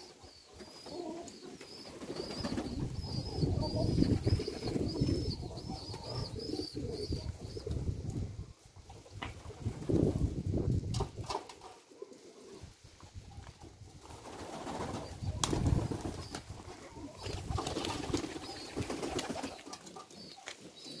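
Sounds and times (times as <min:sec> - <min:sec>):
pigeons cooing: 0:00.0 - 0:10.4, 0:11.5 - 0:12.8, 0:14.5 - 0:21.0.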